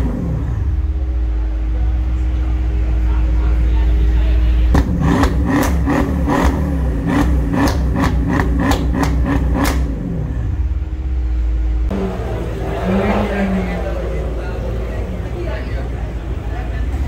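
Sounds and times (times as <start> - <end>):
car engine revving: 0.0 - 17.0
exhaust cracking: 0.0 - 17.0.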